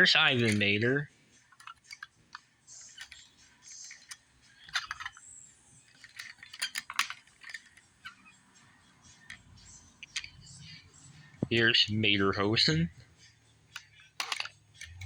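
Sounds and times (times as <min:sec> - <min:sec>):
toy cars clicking and clinking: 0:00.0 - 0:15.0.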